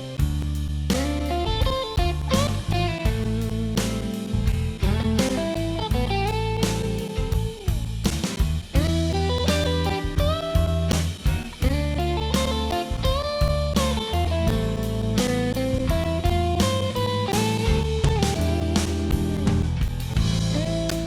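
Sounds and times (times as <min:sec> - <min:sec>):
bass and drums: 0:00.0 - 0:21.0
electric guitar lead: 0:00.9 - 0:21.0.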